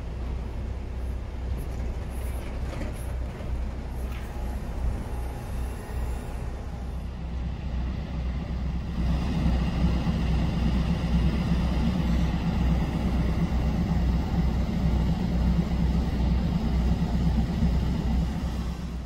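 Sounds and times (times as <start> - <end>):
locomotive engine rumbling: 0.0 - 19.0.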